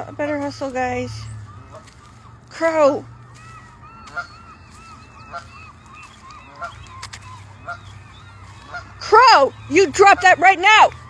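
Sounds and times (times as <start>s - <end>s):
goose calling: 0.0s - 11.0s
goslings peeping: 0.0s - 11.0s.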